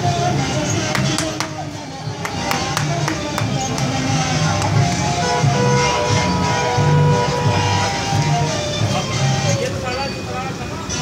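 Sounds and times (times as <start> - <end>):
background music with bass line: 0.0 - 9.8.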